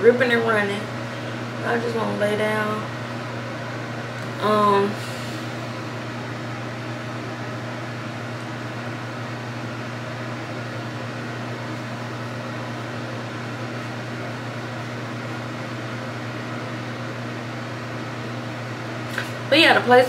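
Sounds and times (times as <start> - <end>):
fan running: 0.0 - 20.0.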